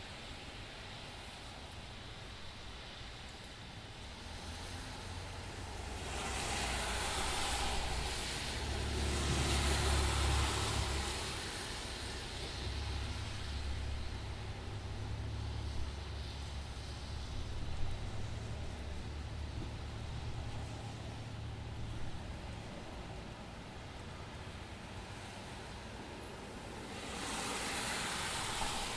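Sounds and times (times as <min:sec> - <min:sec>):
rain: 0:00.0 - 0:28.9
tyres hissing on wet road: 0:00.0 - 0:28.9.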